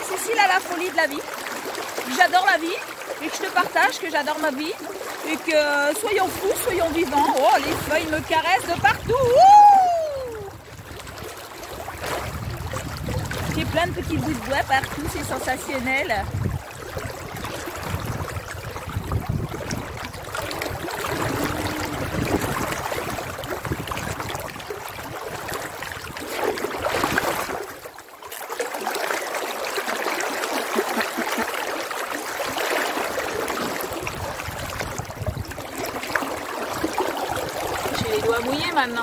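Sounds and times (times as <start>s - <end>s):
river water rushing and splashing: 0.0s - 39.0s.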